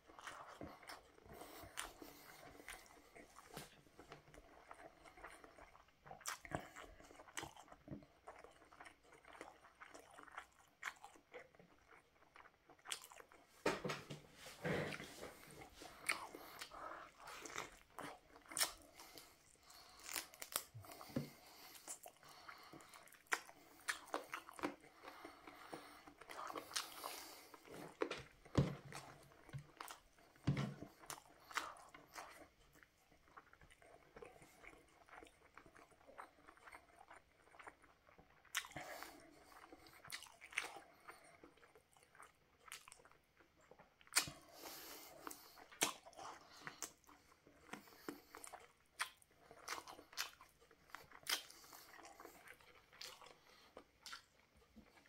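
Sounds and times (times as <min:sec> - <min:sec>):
chewing with wet smacks: 0:00.0 - 0:14.2, 0:14.8 - 0:55.0.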